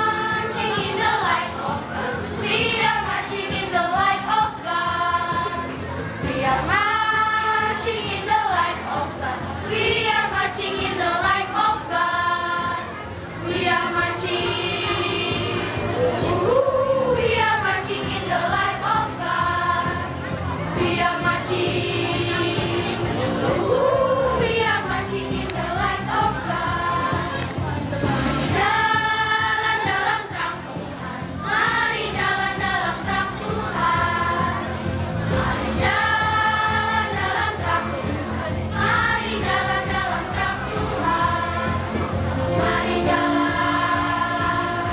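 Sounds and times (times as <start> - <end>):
children's choir singing: 0.0 - 44.9
instrumental accompaniment: 0.0 - 44.9.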